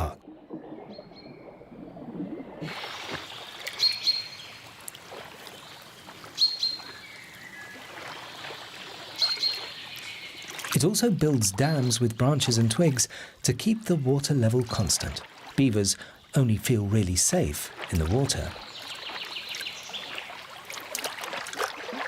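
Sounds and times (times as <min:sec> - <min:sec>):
water ambience: 0:00.0 - 0:22.0.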